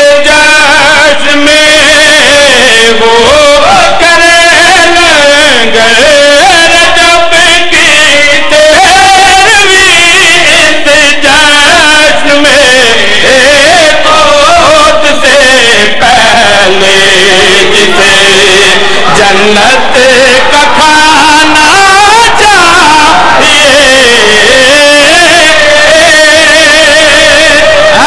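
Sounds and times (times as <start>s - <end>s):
man chanting devotional poetry: 0.0s - 28.0s.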